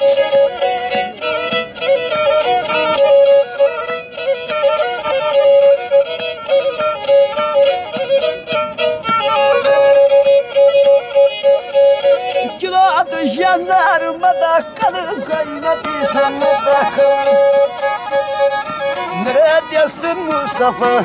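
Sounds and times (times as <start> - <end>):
bowed fiddle folk melody: 0.0 - 21.0.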